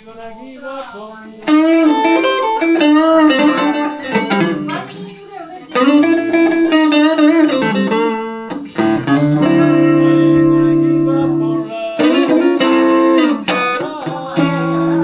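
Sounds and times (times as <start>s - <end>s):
electric guitar playing: 1.4s - 15.0s.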